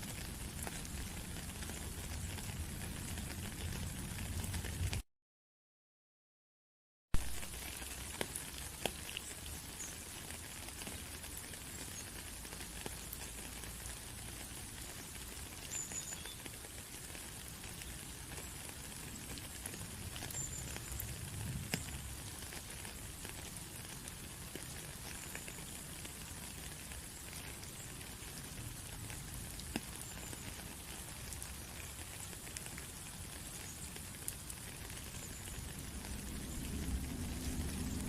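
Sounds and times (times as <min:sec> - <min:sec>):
steady rain pattering: 0:00.0 - 0:05.0, 0:07.2 - 0:38.0.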